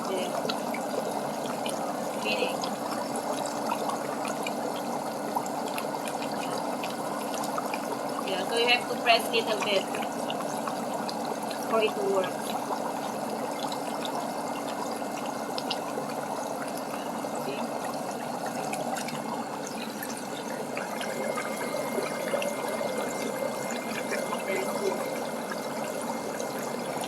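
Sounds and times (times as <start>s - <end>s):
faint steady hum: 0.0s - 27.0s
water churning and bubbling: 0.0s - 27.0s.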